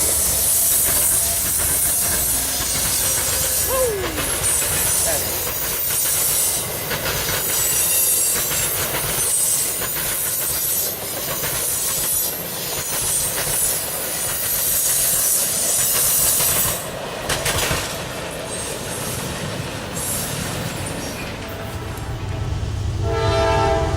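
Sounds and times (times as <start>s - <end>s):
wheels clicking over rail joints: 0.0s - 22.1s
train wheels rumbling on rail: 0.0s - 23.9s.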